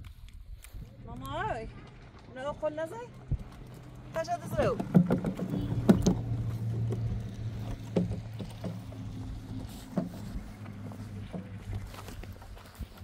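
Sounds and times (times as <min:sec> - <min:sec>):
low engine hum: 0:00.8 - 0:13.0.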